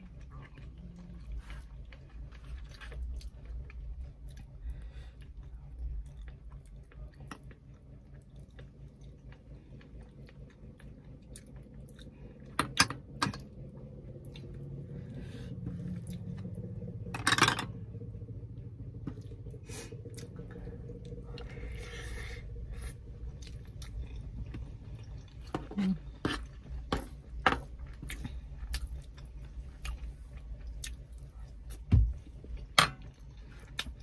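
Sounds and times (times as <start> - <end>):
person chewing food: 0.0 - 17.1, 18.9 - 34.0.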